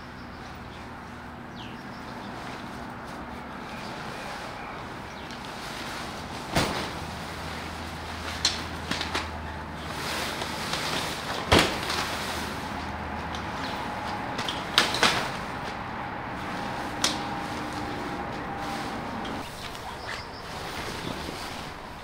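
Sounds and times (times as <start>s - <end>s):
tent fabric rustling: 0.8s - 22.0s.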